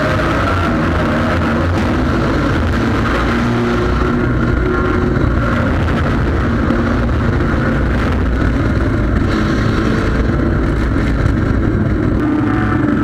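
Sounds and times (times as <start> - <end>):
race car engine: 0.0 - 13.0
road rumble: 0.0 - 13.0
wind noise: 0.0 - 13.0.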